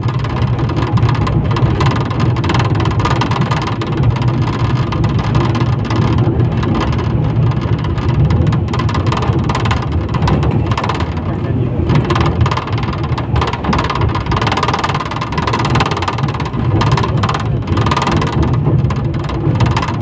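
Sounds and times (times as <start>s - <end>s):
deep drive hum: 0.0s - 20.0s
tram wheels rumbling on rails: 0.0s - 20.0s.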